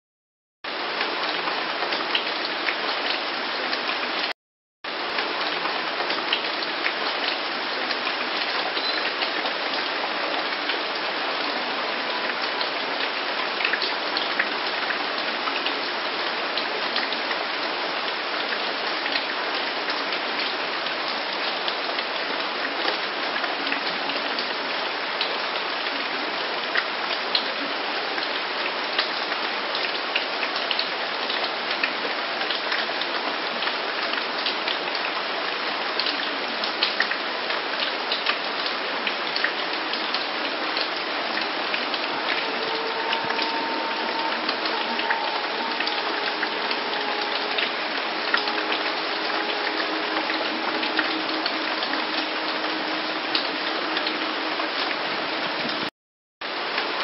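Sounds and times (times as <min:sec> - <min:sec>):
steady rain hiss: 0:04.9 - 0:55.9.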